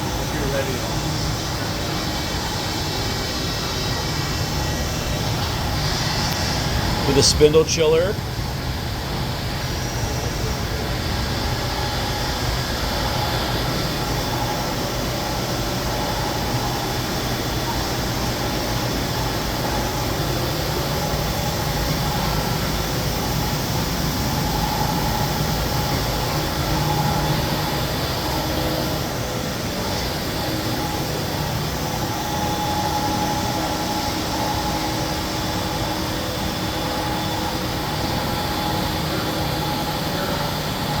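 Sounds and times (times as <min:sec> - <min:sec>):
machine whir and hum: 0:00.0 - 0:41.0.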